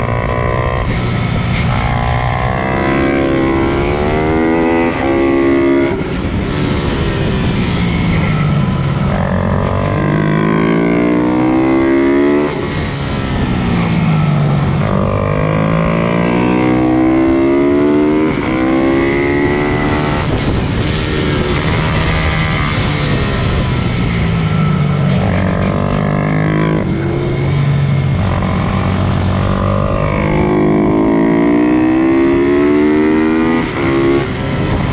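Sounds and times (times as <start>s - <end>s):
pit bike engines revving: 0.0s - 34.9s.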